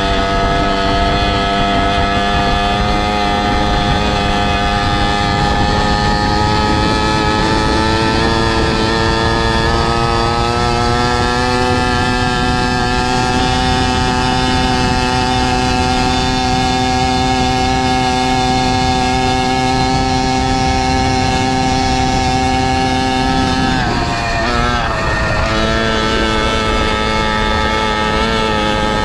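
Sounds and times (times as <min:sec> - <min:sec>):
two-stroke engine running: 0:00.0 - 0:29.0
wind rumbling on microphone: 0:00.0 - 0:29.0.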